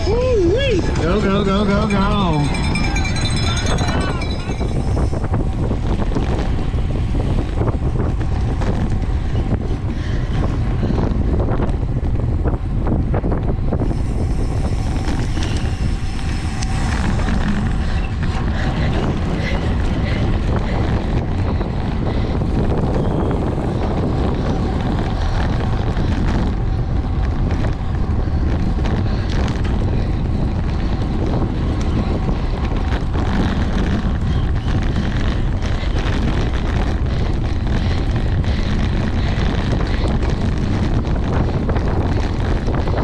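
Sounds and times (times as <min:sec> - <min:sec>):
wind noise on microphone: 0:00.0 - 0:43.0.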